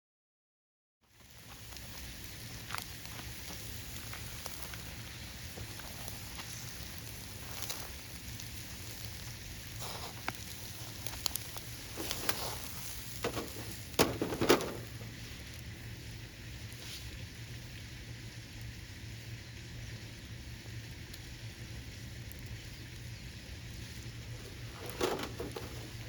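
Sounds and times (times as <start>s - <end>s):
campfire crackling: 1.0s - 26.0s
fire popping: 1.0s - 26.0s
steady hiss: 1.0s - 26.0s.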